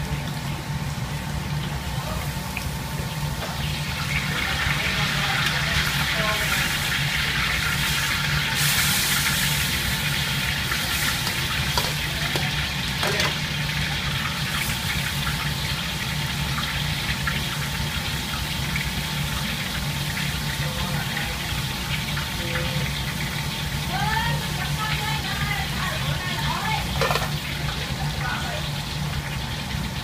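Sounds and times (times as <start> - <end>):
sauce bubbling and sizzling in a wok: 0.0 - 30.0.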